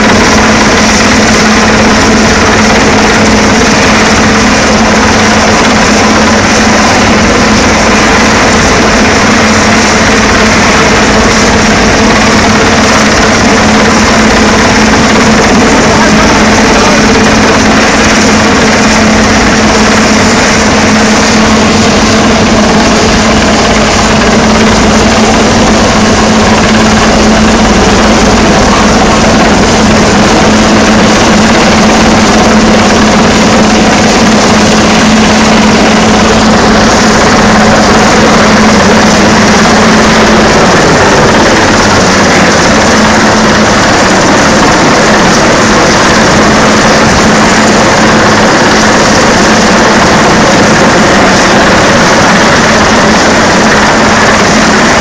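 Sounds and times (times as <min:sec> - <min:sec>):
helicopter hovering overhead: 0:00.0 - 0:55.0.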